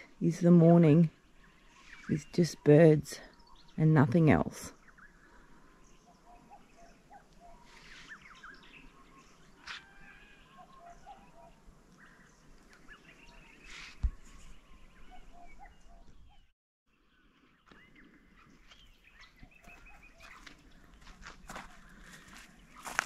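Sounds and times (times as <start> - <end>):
birds chirping and whistling: 1.2 - 3.8, 4.8 - 16.5, 17.1 - 23.0.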